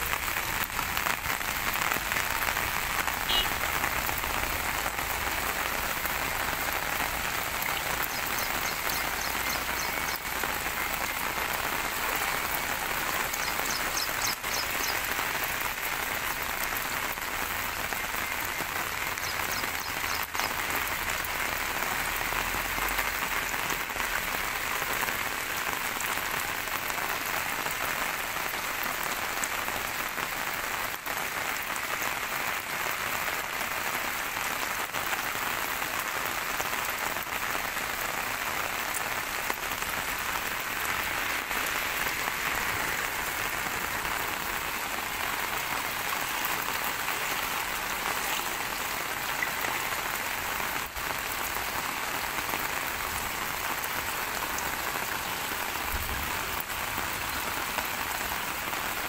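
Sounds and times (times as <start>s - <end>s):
heavy rain on water and road: 0.0s - 59.0s.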